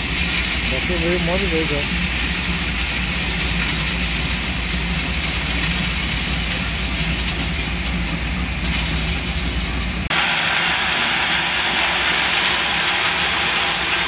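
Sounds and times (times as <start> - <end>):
constant rushing noise: 0.0 - 14.0
engine running: 0.0 - 14.0.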